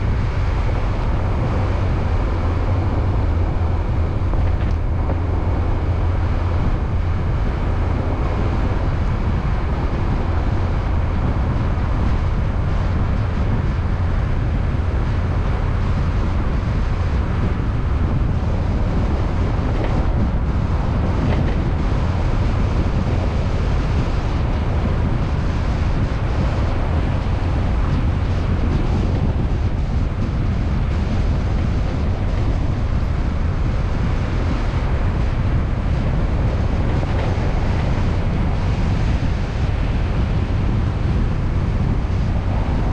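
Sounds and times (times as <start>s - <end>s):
car engine and tyres rumbling: 0.0s - 42.9s
wind noise: 0.0s - 42.9s.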